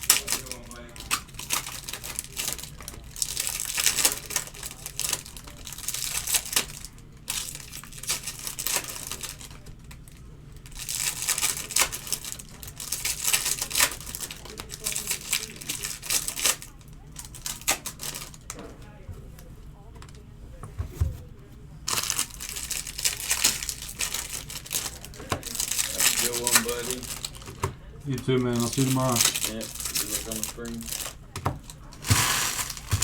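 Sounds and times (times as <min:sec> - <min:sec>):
foil wrappers crinkling and tearing: 0:00.0 - 0:18.5, 0:21.9 - 0:33.0.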